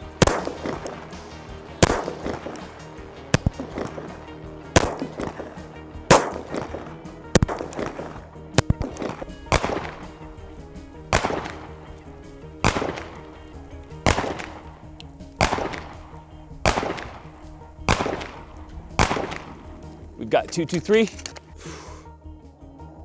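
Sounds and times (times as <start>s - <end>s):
bullets striking concrete: 0.0s - 1.1s, 1.8s - 2.8s, 3.4s - 4.1s, 4.8s - 21.6s
pistol shots with echo: 0.0s - 4.2s, 4.8s - 21.3s.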